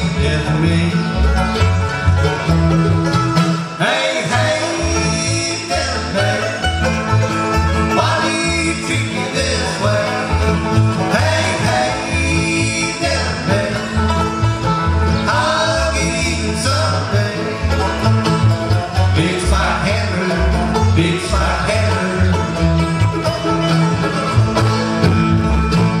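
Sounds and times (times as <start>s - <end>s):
acoustic guitar: 0.0s - 26.0s
banjo picking: 0.0s - 26.0s
mandolin picking: 0.0s - 26.0s
upright bass walking: 0.0s - 26.0s.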